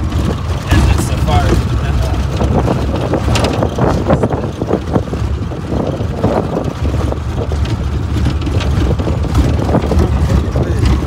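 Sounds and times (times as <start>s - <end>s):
engine drone inside cab: 0.0s - 11.0s
vehicle body rattling and knocking: 0.0s - 11.0s.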